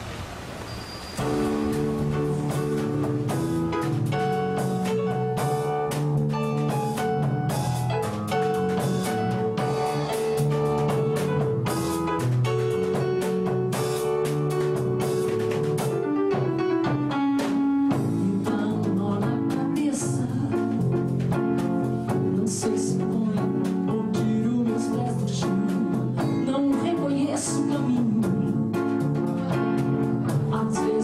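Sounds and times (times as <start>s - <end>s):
drum kit: 0.0s - 31.0s
double bass: 1.2s - 16.6s, 17.9s - 31.0s.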